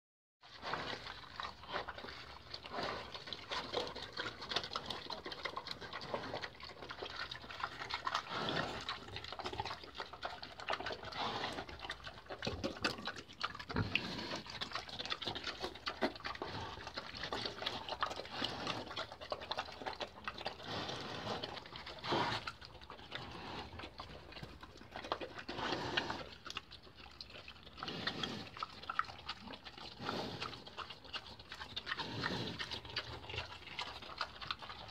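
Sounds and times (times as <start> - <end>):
pig chomping and slurping: 0.4 - 34.9.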